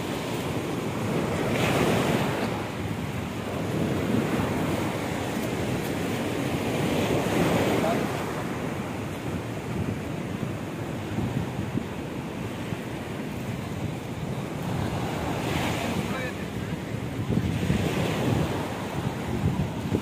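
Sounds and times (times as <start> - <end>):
waves washing onto shore: 0.0 - 20.0
wind buffeting microphone: 0.0 - 20.0.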